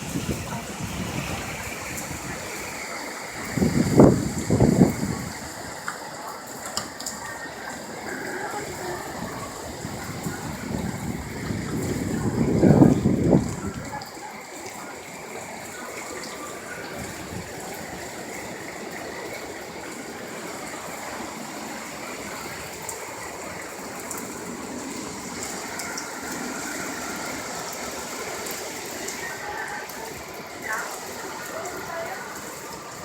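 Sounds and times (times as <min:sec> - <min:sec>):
hurricane wind and rain: 0:00.0 - 0:33.0.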